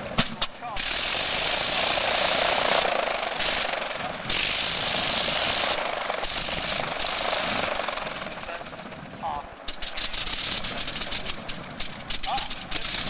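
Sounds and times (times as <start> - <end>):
biplane rotary engine running: 0.0 - 13.0.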